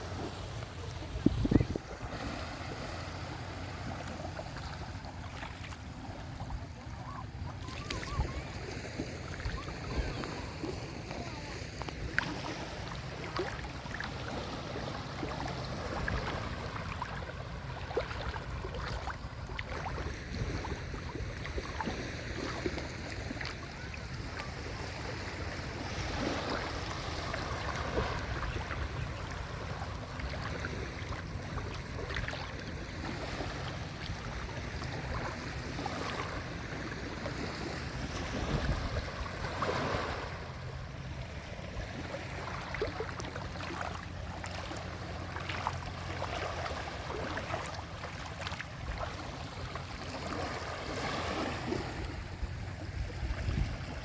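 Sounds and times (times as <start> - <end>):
wind rumbling on microphone: 0.0 - 43.4, 50.6 - 54.0
small waves washing onto beach: 0.0 - 54.0
water splashes: 0.0 - 54.0.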